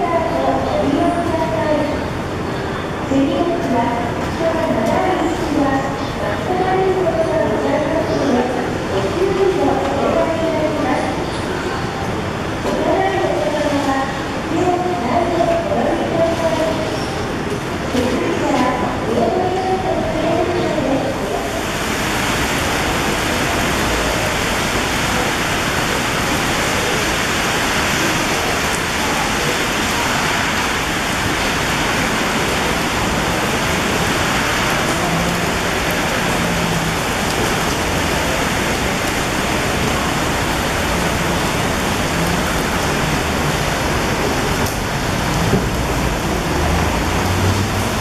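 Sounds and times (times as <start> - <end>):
heavy rain on pavement: 0.0 - 48.0.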